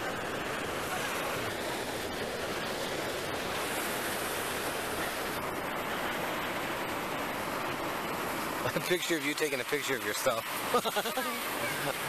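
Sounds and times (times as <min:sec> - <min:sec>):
ocean surf washing up: 0:00.0 - 0:12.0.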